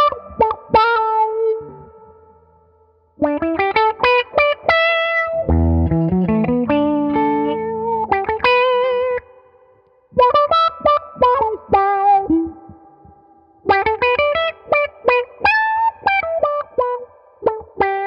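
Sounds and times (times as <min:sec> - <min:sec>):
electric guitar with auto-wah: 0:00.0 - 0:02.3, 0:03.2 - 0:09.5, 0:10.1 - 0:18.0.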